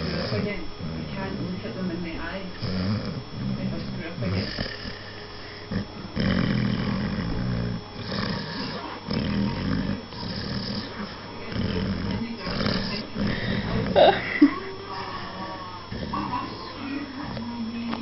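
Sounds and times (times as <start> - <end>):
puppy snoring and growling: 0.0 - 18.0.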